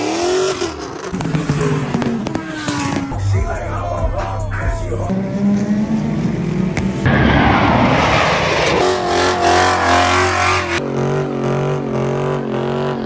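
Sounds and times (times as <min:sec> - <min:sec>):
car engines revving high: 0:00.0 - 0:13.0.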